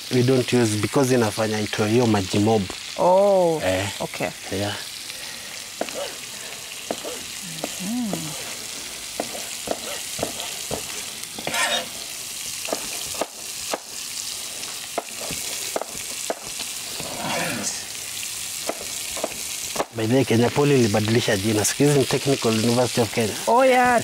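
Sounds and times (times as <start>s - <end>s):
food sizzling in a frying pan: 0.0s - 24.0s.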